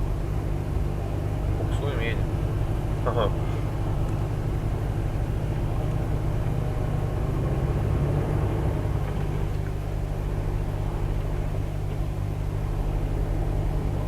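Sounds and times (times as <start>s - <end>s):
truck diesel engine under load: 0.0s - 14.0s.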